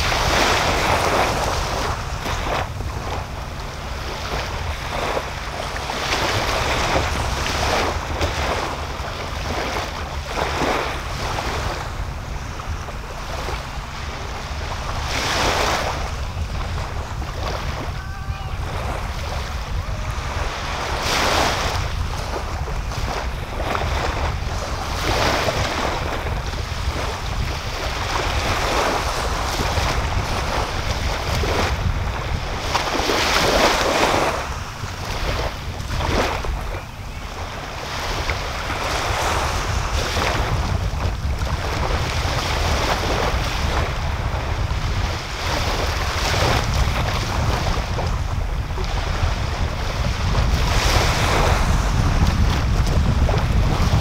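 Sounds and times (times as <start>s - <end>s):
waves washing up beach: 0.0s - 54.0s
wind on microphone: 0.0s - 54.0s.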